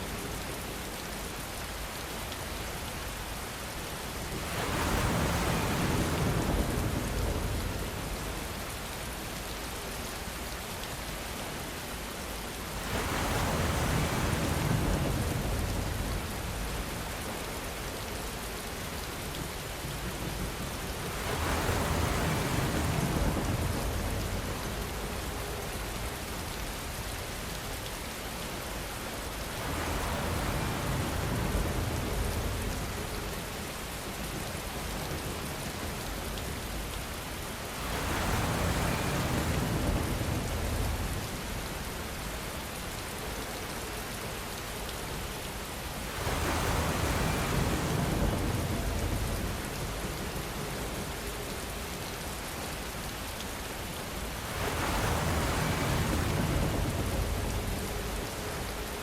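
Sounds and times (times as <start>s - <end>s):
steady rainfall hissing: 0.0s - 59.0s.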